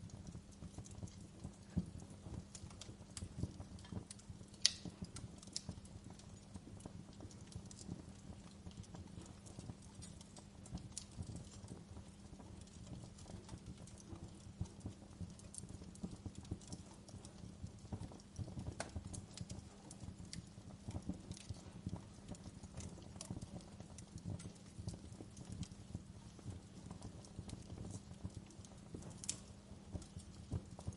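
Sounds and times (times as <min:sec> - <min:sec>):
fire crackling and popping: 0:00.0 - 0:30.9
low rumble of flames: 0:00.0 - 0:30.9.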